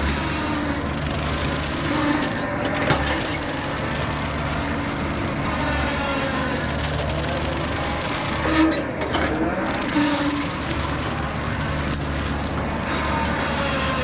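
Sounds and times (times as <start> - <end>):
brush cutter cutting brush: 0.0 - 8.8, 9.6 - 14.0
excavator engine running: 0.0 - 14.0.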